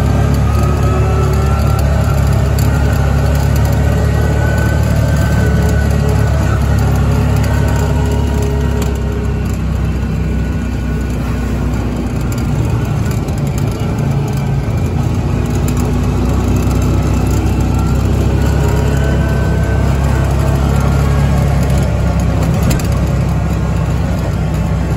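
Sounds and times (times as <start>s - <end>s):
vehicle engine droning: 0.0s - 24.9s.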